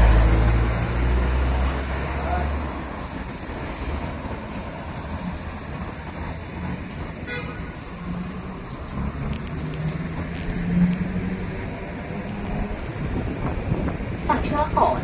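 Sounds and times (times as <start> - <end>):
bus engine hum: 0.0 - 15.0
road rumble: 0.0 - 15.0.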